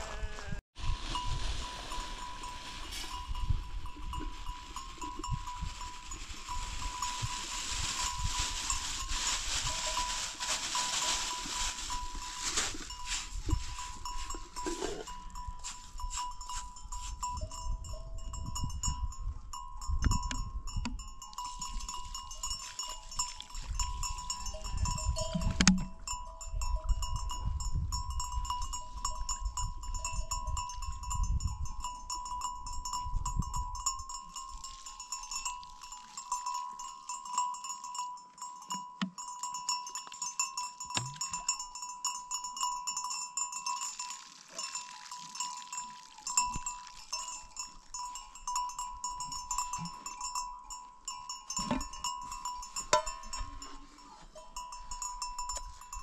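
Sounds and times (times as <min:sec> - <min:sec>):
sheep bells ringing: 0:00.8 - 0:56.0.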